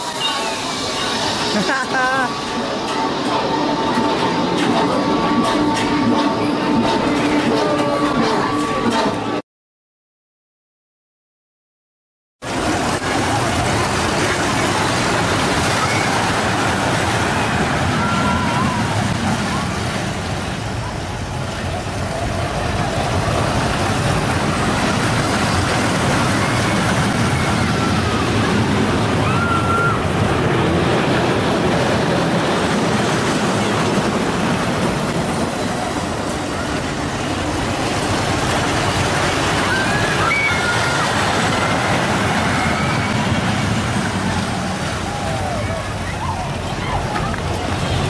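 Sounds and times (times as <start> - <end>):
roller coaster rumbling on track: 0.0 - 9.4, 12.4 - 48.0.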